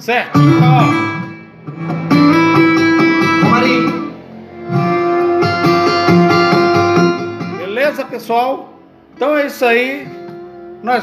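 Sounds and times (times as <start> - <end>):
guitar music from a radio speaker: 0.0 - 8.2, 9.2 - 11.0.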